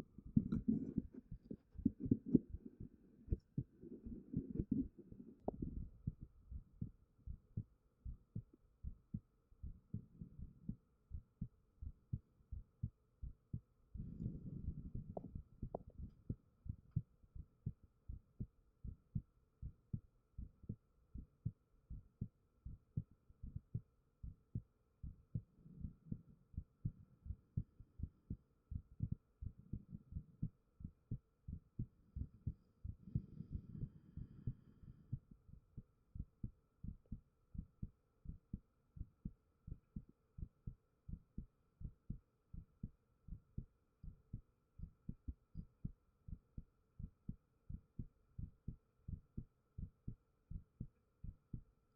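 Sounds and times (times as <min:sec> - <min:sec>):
heartbeat thumps: 0:00.0 - 0:51.7
faint steady hum: 0:00.0 - 0:51.9.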